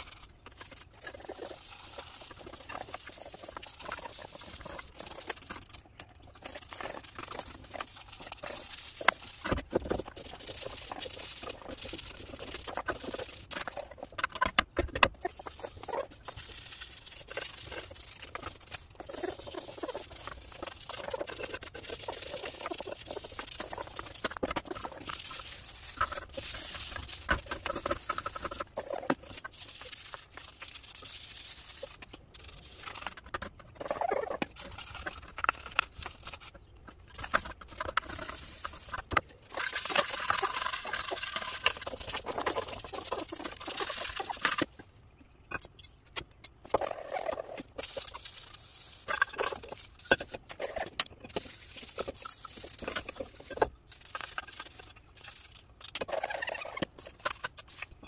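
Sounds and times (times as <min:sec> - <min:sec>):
brush squeaking: 0:00.0 - 0:44.8, 0:46.6 - 0:58.0
plastic brush scrubbing metal: 0:00.0 - 0:44.8, 0:46.7 - 0:58.0.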